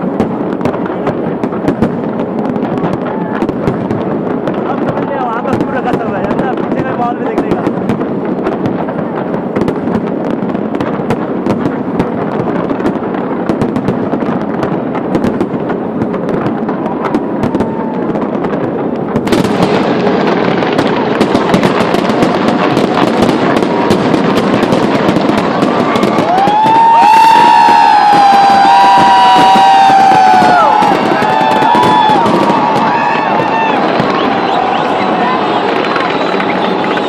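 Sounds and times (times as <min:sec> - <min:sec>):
fireworks crackling and popping: 0:00.0 - 0:37.0.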